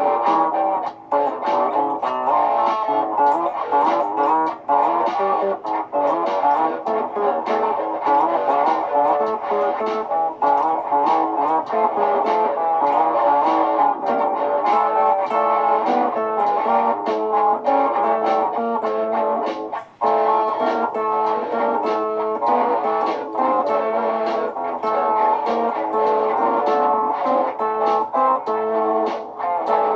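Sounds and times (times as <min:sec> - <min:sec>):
layered electric guitar loops: 0:00.0 - 0:29.9.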